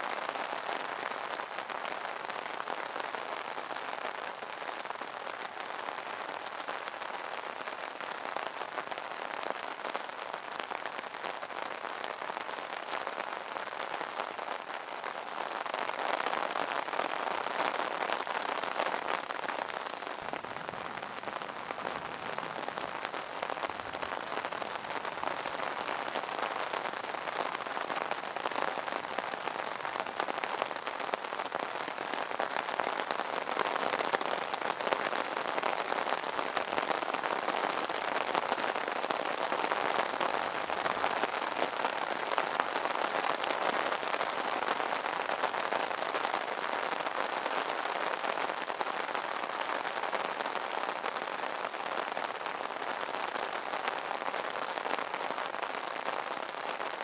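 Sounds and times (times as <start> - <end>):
rain on an umbrella: 0.0 - 57.0.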